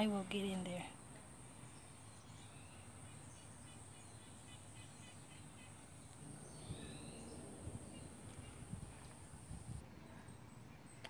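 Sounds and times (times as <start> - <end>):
faint distant bird chirps: 0.0 - 11.0.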